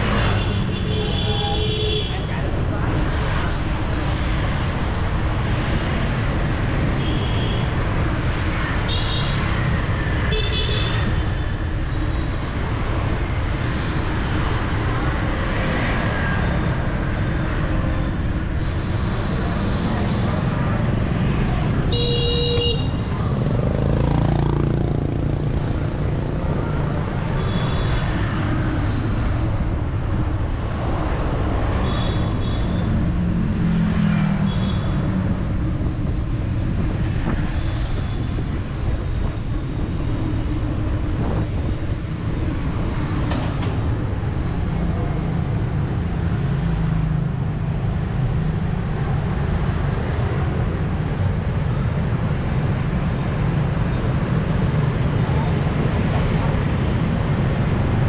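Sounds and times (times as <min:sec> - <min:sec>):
traffic engines rumbling: 0:00.0 - 0:58.0.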